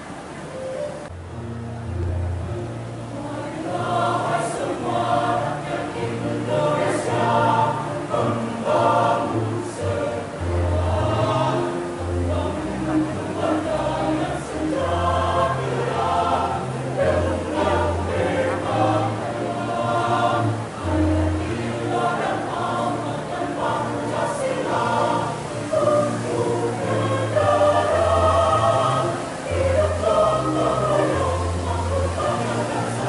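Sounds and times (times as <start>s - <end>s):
choir singing: 3.1s - 33.0s.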